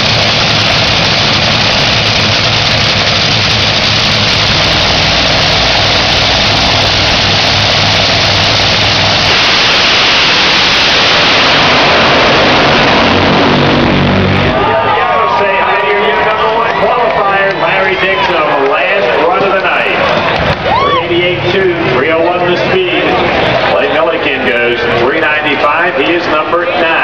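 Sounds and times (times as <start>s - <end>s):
dragster engines rumbling: 0.0s - 27.0s
dragsters launching at full throttle: 0.0s - 27.0s.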